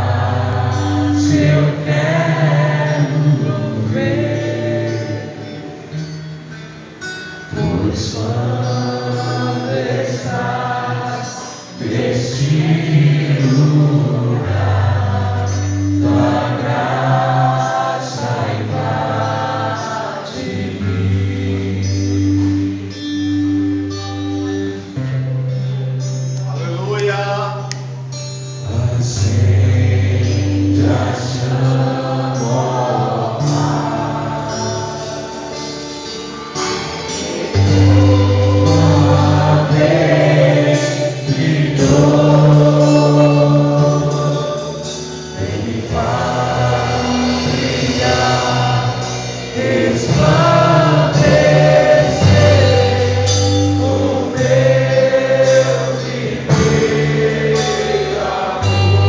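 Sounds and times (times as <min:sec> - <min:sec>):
people singing together: 0:00.0 - 0:06.0, 0:07.5 - 0:23.6, 0:28.6 - 0:59.0
worship band playing: 0:00.0 - 0:59.0.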